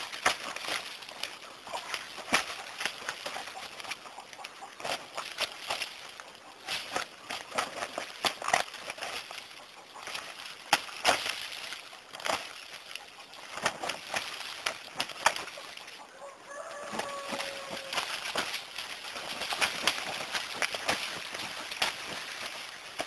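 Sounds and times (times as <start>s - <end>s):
wings and feet slapping and scuffling: 0.0s - 23.0s.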